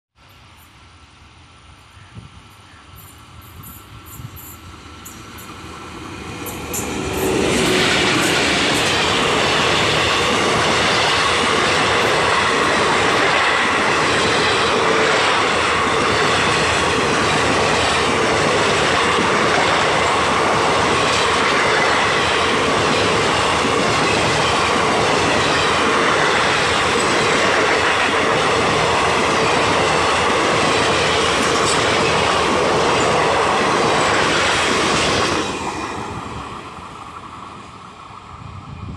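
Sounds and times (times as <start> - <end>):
passenger train passing: 0.2 - 38.9
wheels rushing on rail: 0.2 - 38.9.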